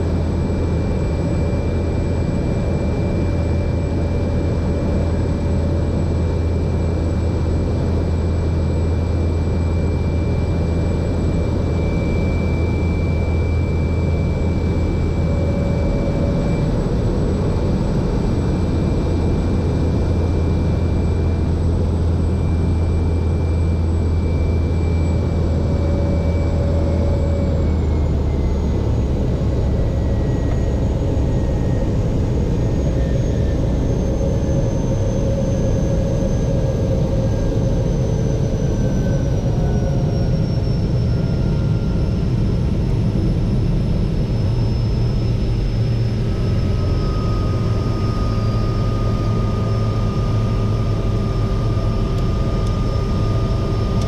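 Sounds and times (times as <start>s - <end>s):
floatplane engine and propeller drone: 0.0s - 54.0s.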